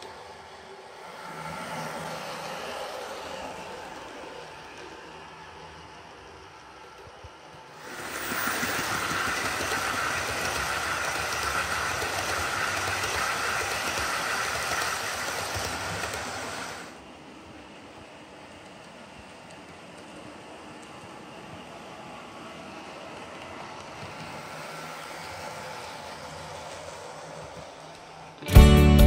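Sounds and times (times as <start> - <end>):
model train whirring on track: 0.0 - 28.6.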